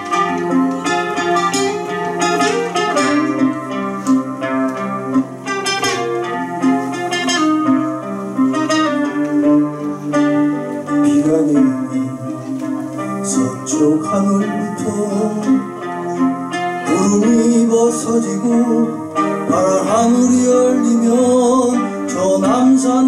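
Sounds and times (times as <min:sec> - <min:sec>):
classical guitar fingerstyle: 0:00.0 - 0:23.0.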